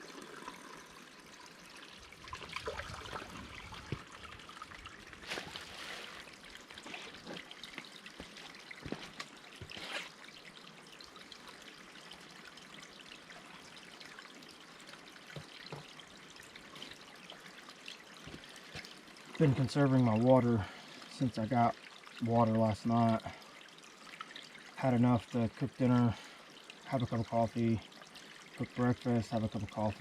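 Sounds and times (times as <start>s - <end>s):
water trickling and splashing: 0.0s - 30.0s.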